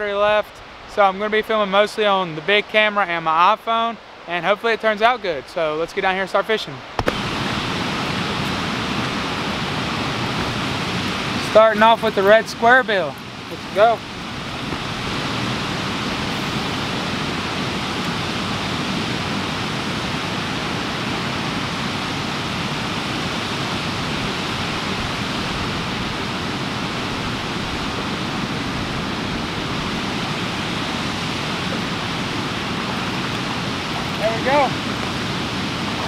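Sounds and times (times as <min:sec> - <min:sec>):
water rushing through dam gates: 0:00.0 - 0:36.0.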